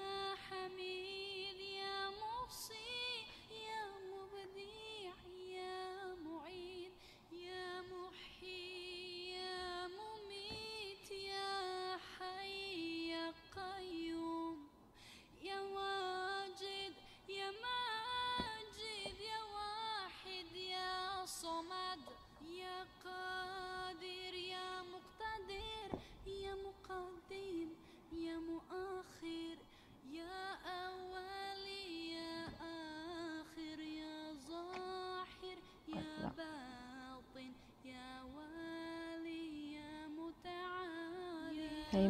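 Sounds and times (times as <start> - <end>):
woman singing slow melody: 0.0 - 42.0.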